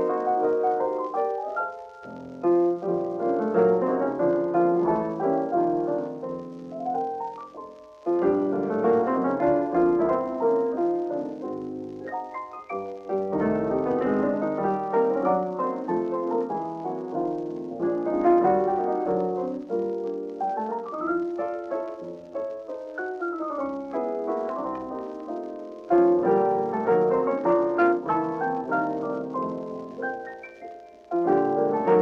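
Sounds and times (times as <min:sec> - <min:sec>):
piano dance tune with bass and drums: 0:00.0 - 0:32.0.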